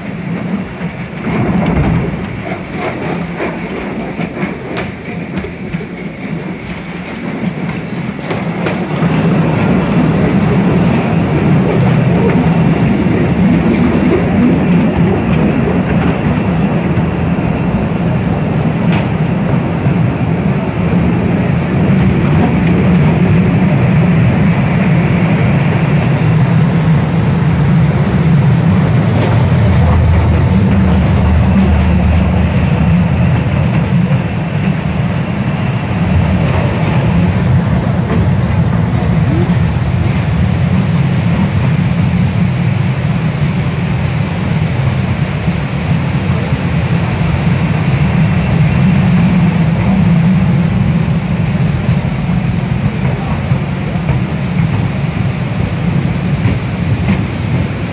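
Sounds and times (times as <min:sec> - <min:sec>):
train cars rumbling and rattling: 0:00.0 - 0:57.9.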